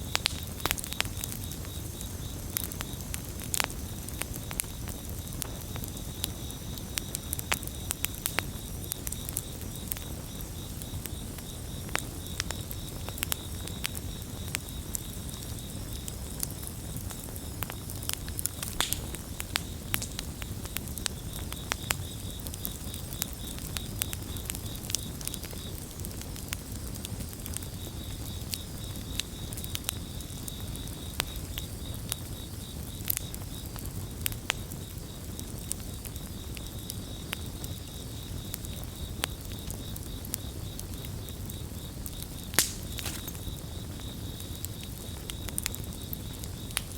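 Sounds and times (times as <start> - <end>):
campfire crackling and popping: 0.0 - 46.9
crickets chirping: 0.0 - 46.9.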